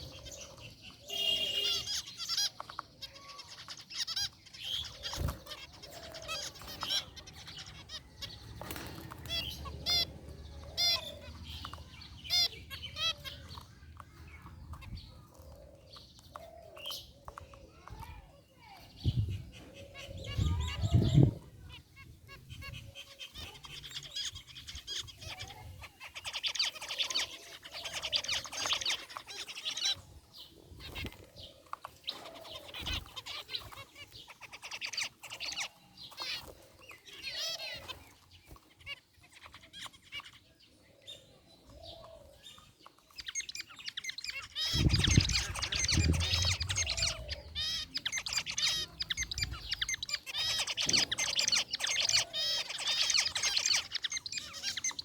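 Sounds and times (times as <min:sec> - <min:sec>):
finches chirping and calling: 0:00.0 - 0:55.0.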